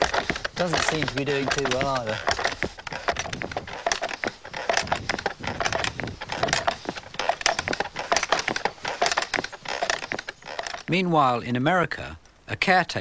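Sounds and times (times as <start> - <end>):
bellows vacuum cleaner clattering: 0.0 - 11.0.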